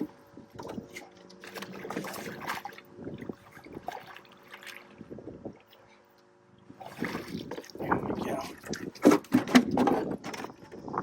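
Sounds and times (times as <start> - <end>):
water splashing beside a boat: 0.0 - 11.0.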